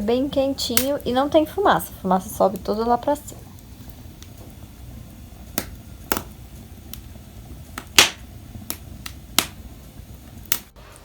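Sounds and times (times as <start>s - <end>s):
fire crackling and popping: 0.0s - 11.0s.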